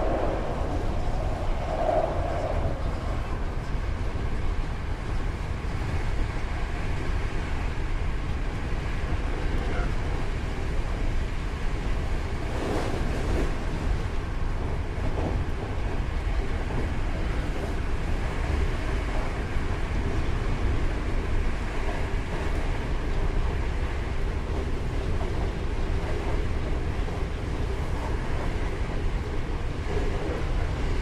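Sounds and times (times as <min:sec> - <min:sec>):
train wheel-on-rail rumble: 0:00.0 - 0:31.0.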